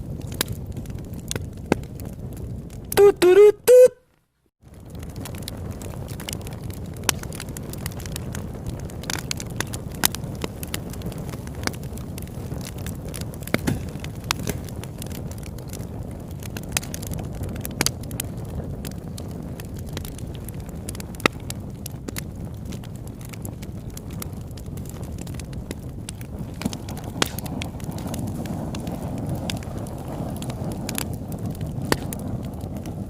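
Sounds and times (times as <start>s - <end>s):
burning wood crackling: 0.0s - 33.0s
campfire low rush: 0.0s - 33.0s.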